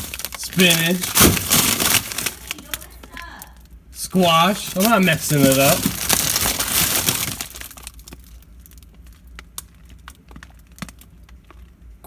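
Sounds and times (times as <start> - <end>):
plastic bags crinkling: 0.0 - 11.7.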